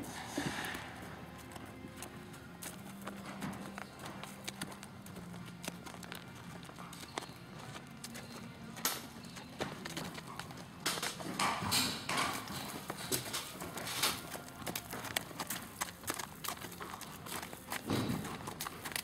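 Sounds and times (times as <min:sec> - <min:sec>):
horse hoofbeats on dirt: 0:00.0 - 0:19.0.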